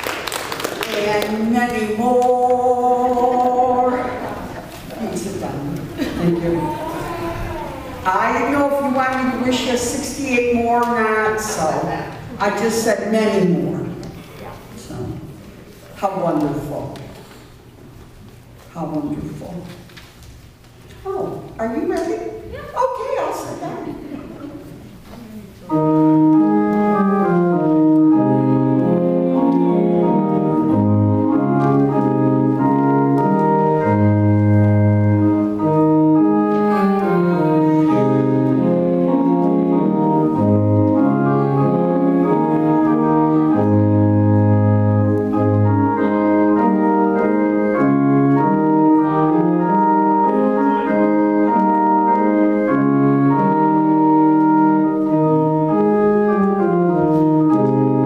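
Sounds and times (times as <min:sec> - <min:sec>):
organ playing sustained chords: 0:00.0 - 0:14.2, 0:22.9 - 0:58.0.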